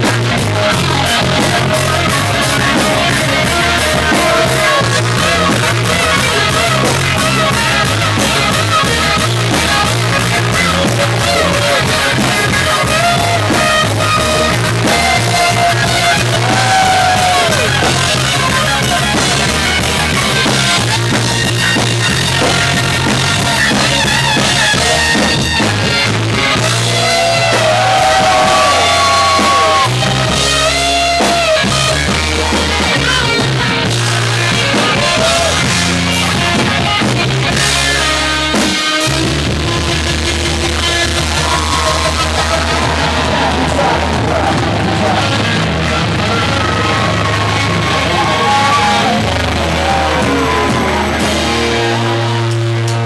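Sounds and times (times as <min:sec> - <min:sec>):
bass guitar: 0:00.0 - 0:53.0
drum kit: 0:00.0 - 0:53.0
electric guitar: 0:00.0 - 0:53.0.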